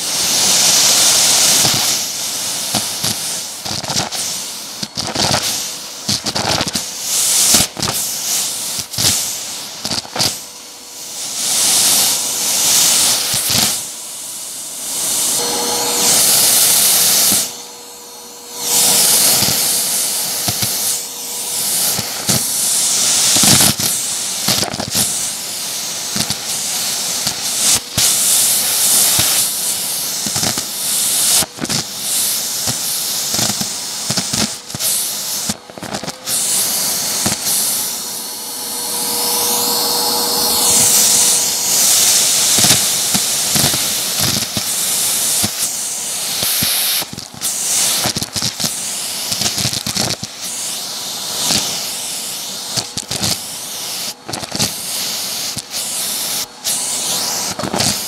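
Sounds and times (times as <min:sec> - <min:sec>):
vacuum suction hiss: 0:00.0 - 0:58.0.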